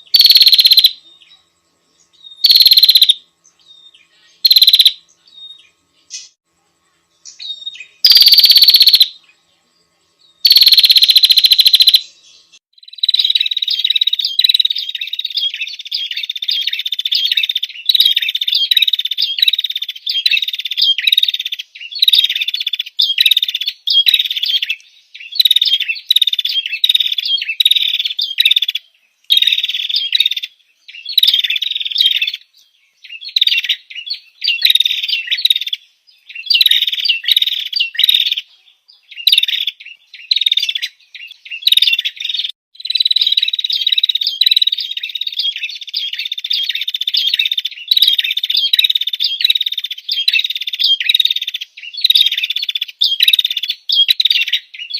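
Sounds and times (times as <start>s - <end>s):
bird chirping trills: 0.0s - 54.9s.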